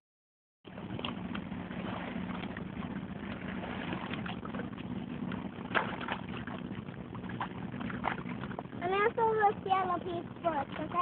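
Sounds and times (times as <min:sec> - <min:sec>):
boat engine droning: 0:00.6 - 0:11.0.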